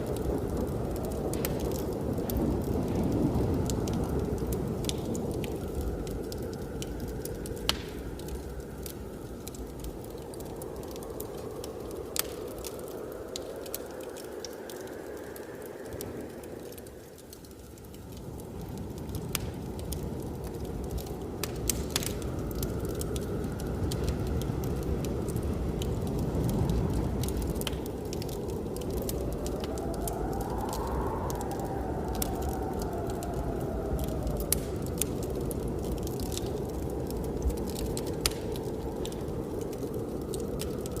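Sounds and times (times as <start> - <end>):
blizzard wind whistling: 0.0 - 41.0
wood fire crackling: 0.0 - 41.0.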